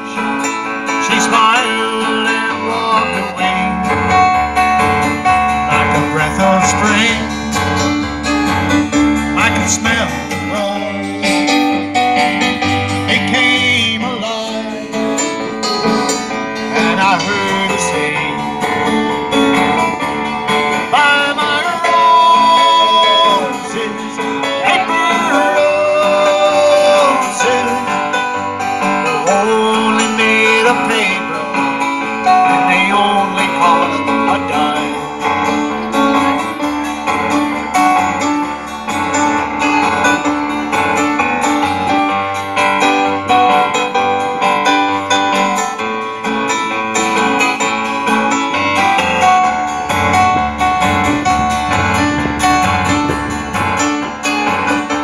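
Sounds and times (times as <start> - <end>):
keyboard melody: 0.0 - 55.0
strummed acoustic guitar: 0.0 - 55.0.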